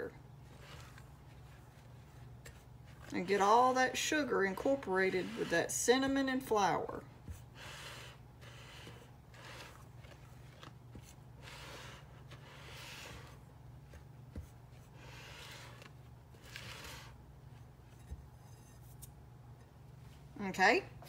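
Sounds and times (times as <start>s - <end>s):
spatula scraping dry flour in bowl: 0.0s - 14.0s, 14.8s - 19.2s.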